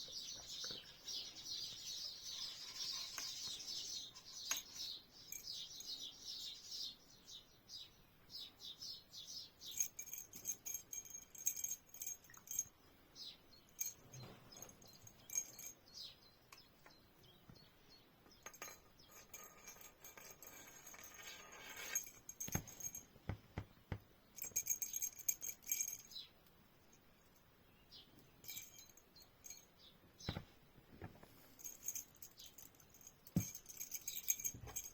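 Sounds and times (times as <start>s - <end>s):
birds chirping: 0.0s - 23.0s, 27.2s - 34.9s
small metallic jingling: 0.2s - 6.8s, 9.2s - 16.3s, 18.3s - 23.6s, 24.3s - 30.4s, 31.2s - 34.9s.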